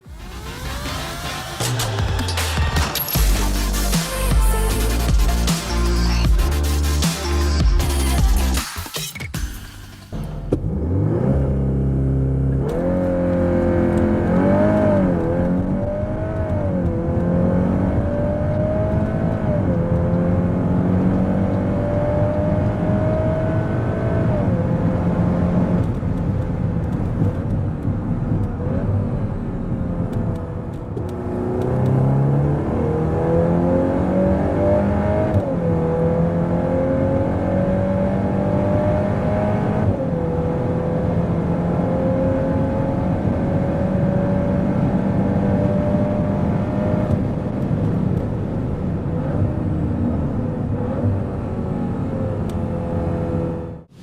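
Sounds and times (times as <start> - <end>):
car engine accelerating: 10.0 - 54.0.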